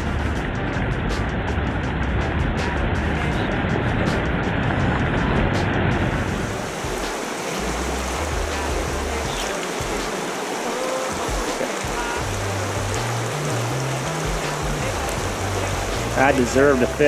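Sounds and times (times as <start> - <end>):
river rushing over rocks: 0.0 - 17.0
soundtrack music: 0.0 - 17.0.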